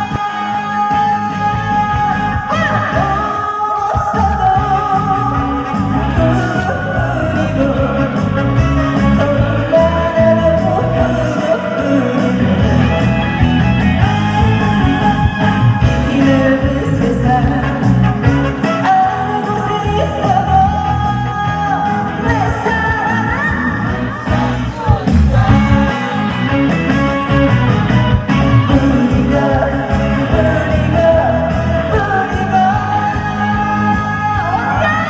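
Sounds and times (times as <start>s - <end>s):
woman singing: 0.0s - 25.9s, 27.6s - 35.0s
backing track with steady beat: 0.0s - 35.0s.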